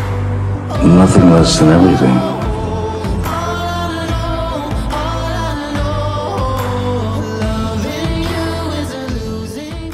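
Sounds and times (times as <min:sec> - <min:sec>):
person singing: 0:00.7 - 0:09.9.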